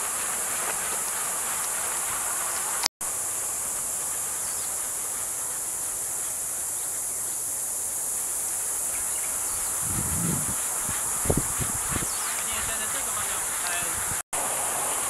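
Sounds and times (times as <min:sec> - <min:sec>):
insect chirring: 0:01.0 - 0:14.0.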